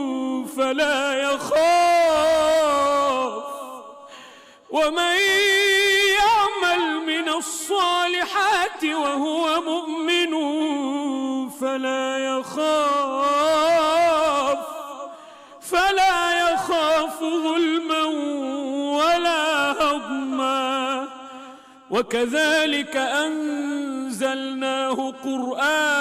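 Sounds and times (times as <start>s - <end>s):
man chanting recitation: 0.0s - 4.1s, 4.7s - 26.0s.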